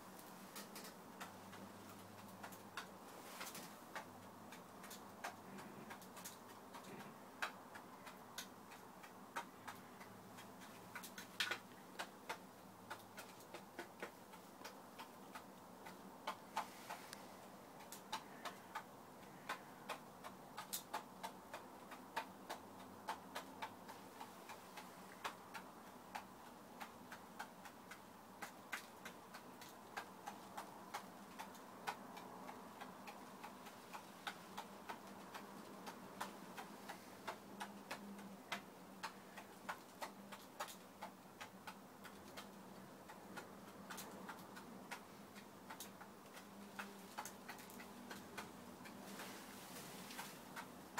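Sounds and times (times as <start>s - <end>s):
hens pecking with sharp clicks: 0.0s - 50.9s.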